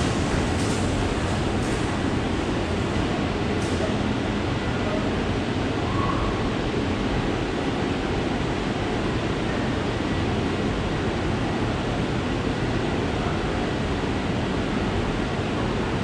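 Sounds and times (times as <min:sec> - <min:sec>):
metro platform rushing ambience: 0:00.0 - 0:16.0.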